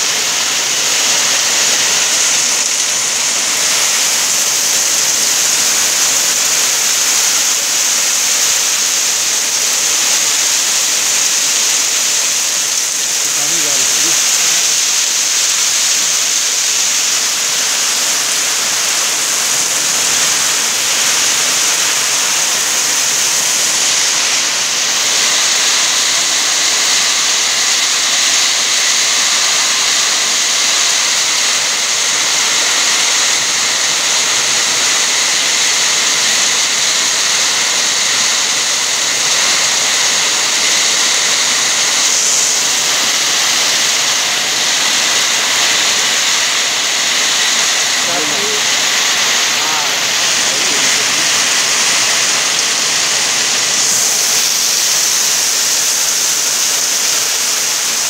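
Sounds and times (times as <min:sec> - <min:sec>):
heavy rain on street: 0:00.0 - 0:58.0.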